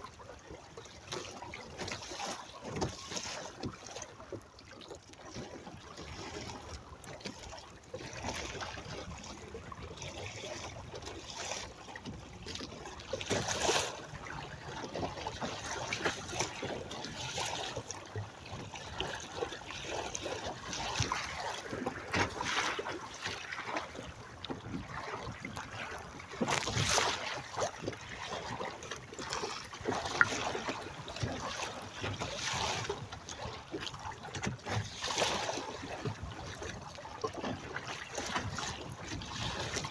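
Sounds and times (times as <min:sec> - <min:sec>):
water rushing along hull: 0:00.0 - 0:39.9
waves slapping hulls: 0:00.0 - 0:39.9.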